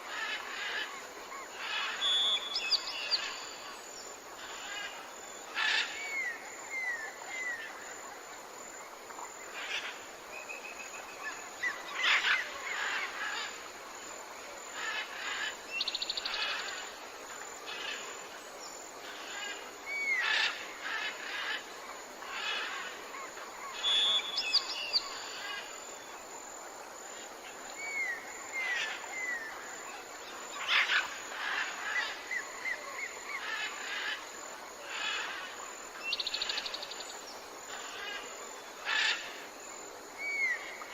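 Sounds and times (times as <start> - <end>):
faint background hiss: 0.0 - 40.9
wild birds chirping and whistling: 0.1 - 3.8, 4.4 - 8.0, 9.1 - 13.7, 14.6 - 26.2, 27.1 - 40.9.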